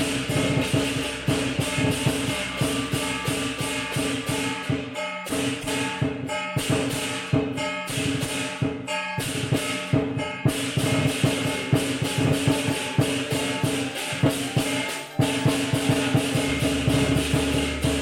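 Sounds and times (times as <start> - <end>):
cymbals clashing: 0.0 - 18.0
drum beating: 0.0 - 18.0.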